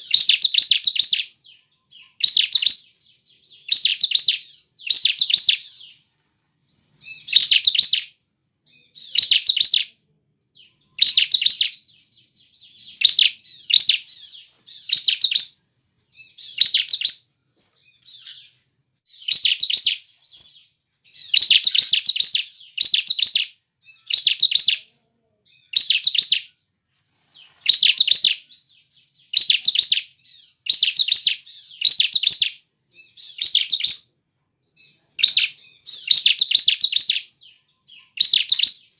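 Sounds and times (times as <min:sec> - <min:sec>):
bird singing high chattering phrases: 0:00.0 - 0:38.9.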